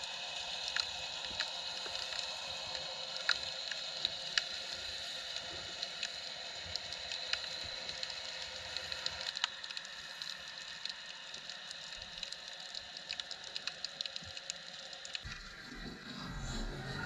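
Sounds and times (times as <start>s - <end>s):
underwater hiss with crackling clicks: 0.0s - 15.3s
low rumble of moving water: 0.1s - 17.0s.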